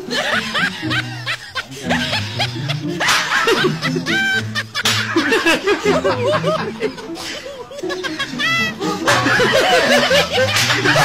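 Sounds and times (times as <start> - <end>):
background music: 0.0 - 11.0
men laughing and snickering: 0.0 - 11.0.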